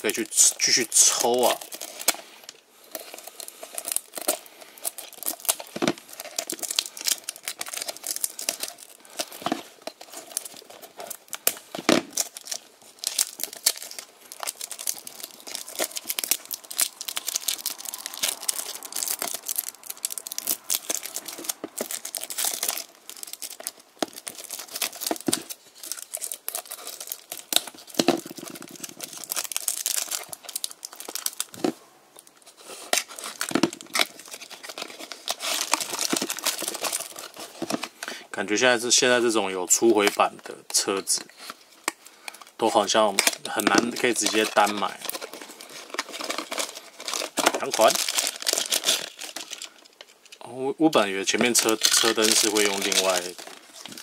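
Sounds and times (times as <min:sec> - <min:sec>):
plastic bag crinkling: 0:00.0 - 0:54.0.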